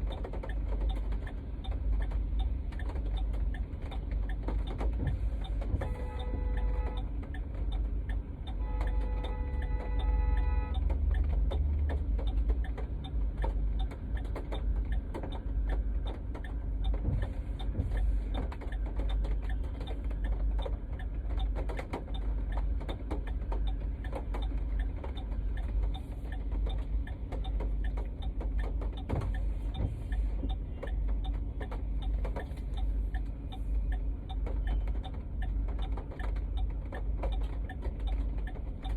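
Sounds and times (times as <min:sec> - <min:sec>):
heavy rain on a car: 0:00.0 - 0:33.8
car rumbling on road: 0:00.0 - 0:38.9.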